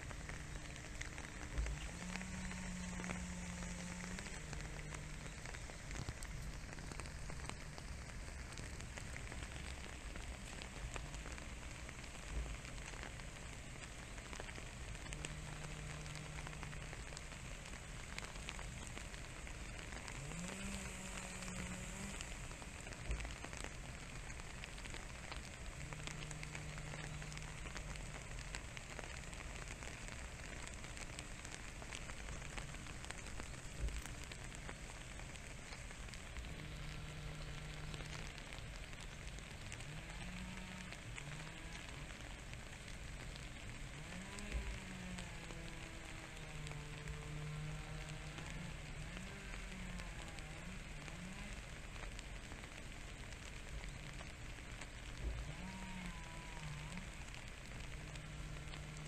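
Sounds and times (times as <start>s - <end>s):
faint low hum: 0.0s - 59.0s
light rain on leaves: 0.0s - 59.0s.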